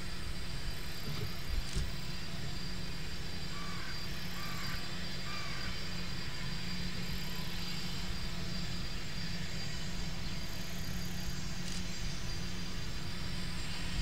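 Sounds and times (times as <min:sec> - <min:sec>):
faint high whine: 0:00.0 - 0:14.0
jet engines low rumble: 0:00.0 - 0:14.0.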